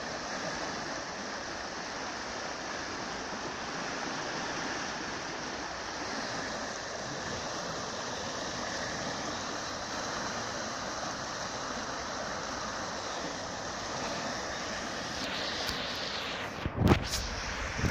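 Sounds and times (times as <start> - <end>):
river rushing: 0.0 - 17.9.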